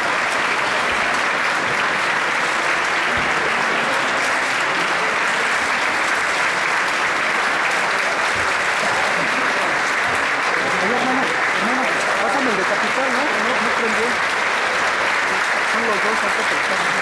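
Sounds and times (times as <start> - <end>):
large crowd applauding: 0.0 - 17.0.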